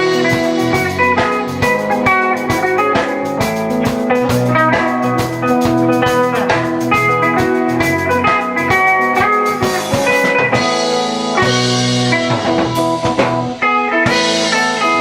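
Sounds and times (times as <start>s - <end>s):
drum kit beat: 0.0s - 15.0s
electric guitar chords and riffs: 0.0s - 15.0s.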